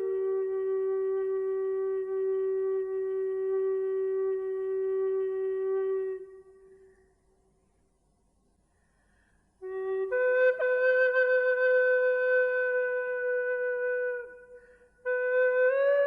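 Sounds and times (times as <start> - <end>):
slow flute-like music: 0.0 - 7.3, 9.2 - 16.0.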